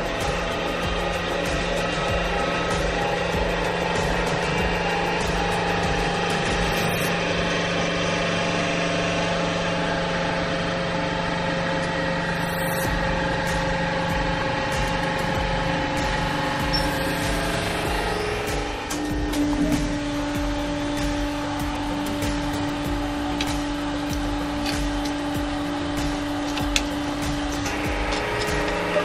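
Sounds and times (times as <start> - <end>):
hydraulic pump motor humming: 0.0 - 29.0.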